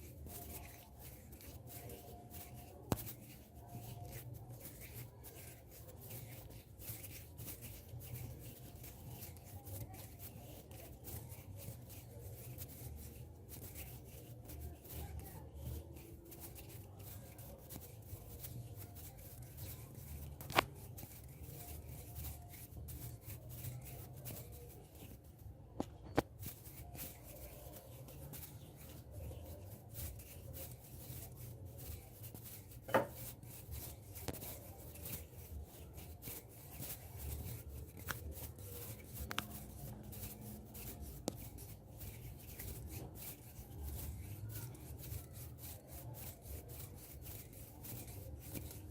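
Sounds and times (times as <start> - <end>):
hands rubbing together: 0.0 - 48.9.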